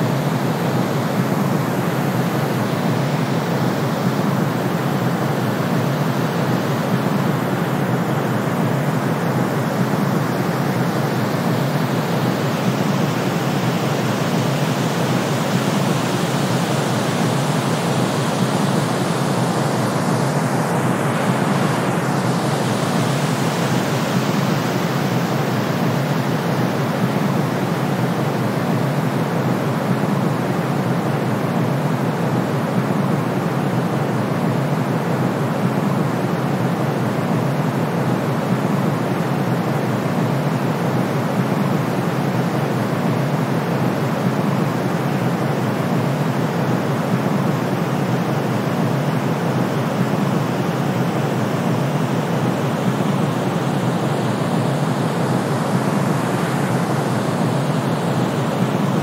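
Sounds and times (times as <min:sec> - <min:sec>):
steady noise rush: 0:00.0 - 0:59.0.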